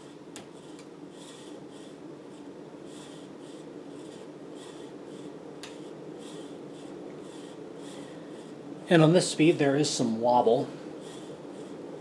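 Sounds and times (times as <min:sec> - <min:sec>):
ceiling fan motor hum and whoosh: 0:00.0 - 0:12.0.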